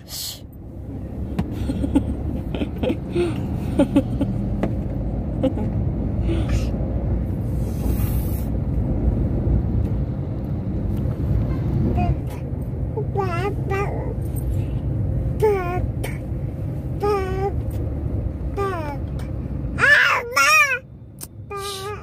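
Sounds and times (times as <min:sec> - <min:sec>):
car road rumble: 0:00.0 - 0:22.0.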